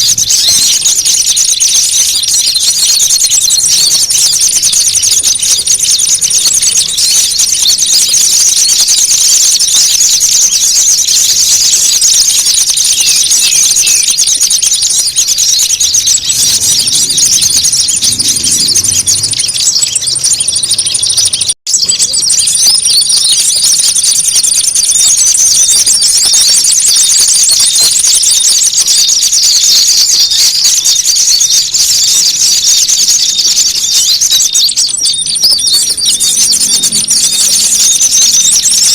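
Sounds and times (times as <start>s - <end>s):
songbirds chattering and chirping: 0.0s - 38.9s.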